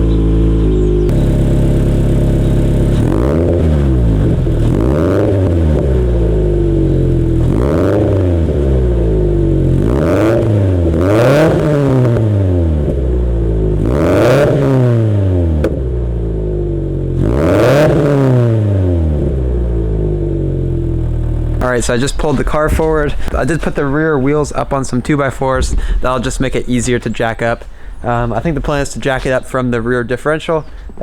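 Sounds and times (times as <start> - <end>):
car engine revving: 0.0 - 29.4.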